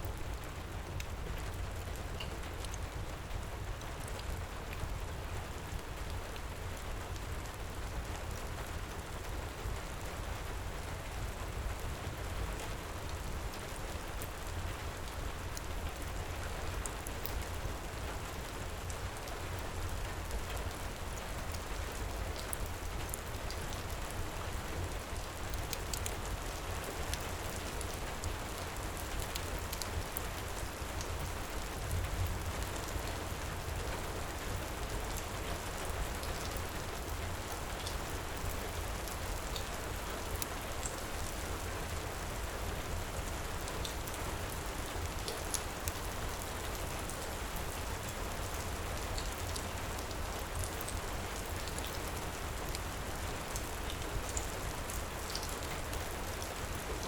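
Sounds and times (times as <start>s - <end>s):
heavy rain pouring: 1.4s - 57.0s.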